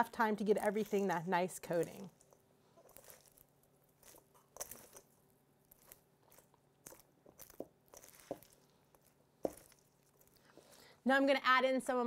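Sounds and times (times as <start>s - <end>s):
popcorn crunching in metal bowl: 0.0s - 10.8s.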